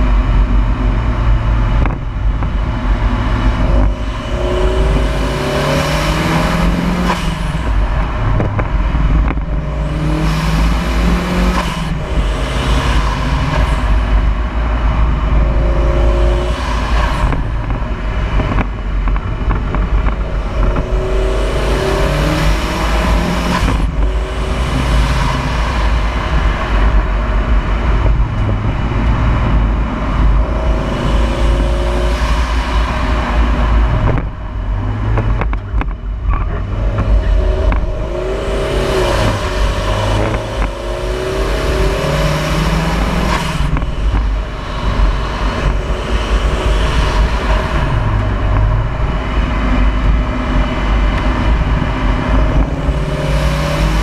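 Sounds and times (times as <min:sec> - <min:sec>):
car engine revving: 0:00.0 - 0:54.0
wind rumble on microphone: 0:00.0 - 0:54.0.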